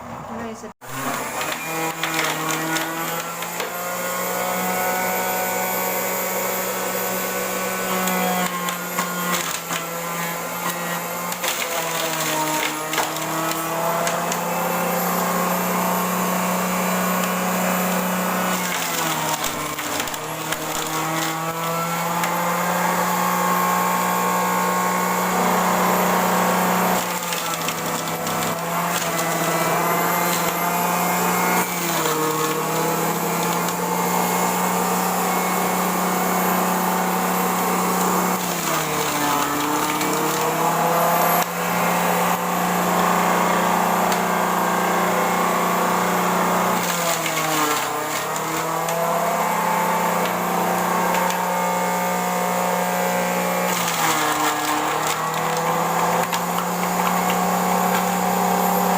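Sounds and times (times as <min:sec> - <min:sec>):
kitchen appliance motor humming: 0:00.8 - 0:58.9.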